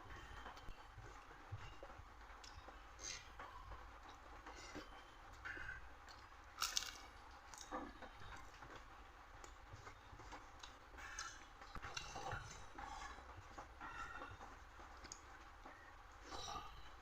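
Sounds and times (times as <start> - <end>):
person chewing food: 0.1 - 17.0.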